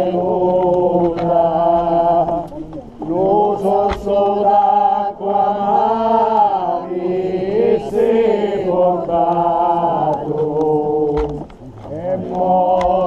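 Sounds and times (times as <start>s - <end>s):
crowd singing a devotional chant: 0.0s - 13.0s.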